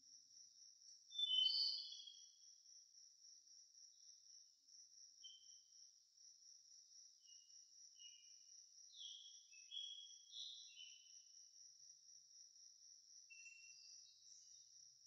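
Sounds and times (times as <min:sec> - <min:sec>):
cricket chirps: 0:00.0 - 0:15.0
cricket trill: 0:00.0 - 0:15.0.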